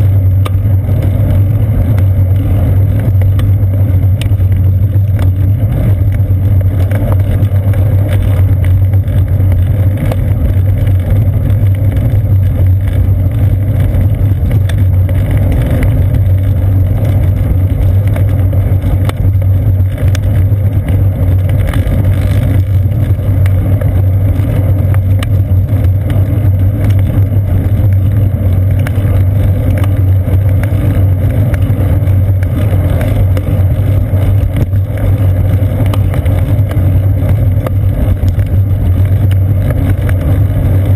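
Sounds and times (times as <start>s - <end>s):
road vibration rumble: 0.0s - 40.9s.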